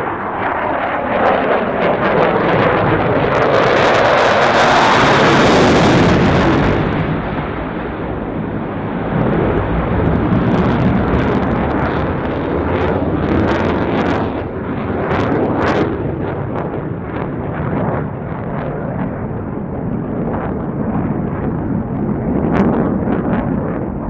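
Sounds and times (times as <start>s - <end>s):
fighter jet roar: 0.0s - 24.0s.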